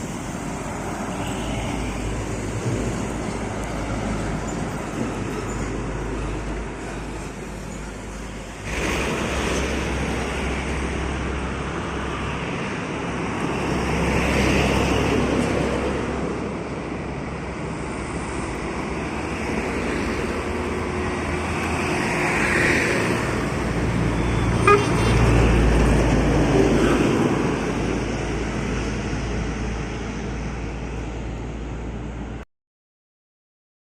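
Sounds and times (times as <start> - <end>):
vehicles passing: 0.0 - 32.4.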